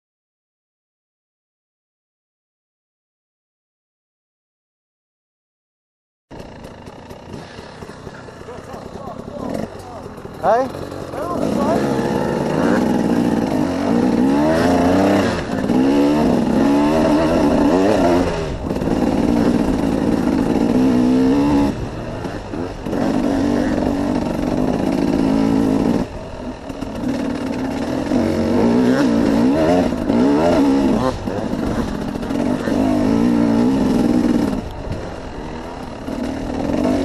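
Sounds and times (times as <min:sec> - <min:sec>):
dirt bike engine revving: 0:06.3 - 0:37.0.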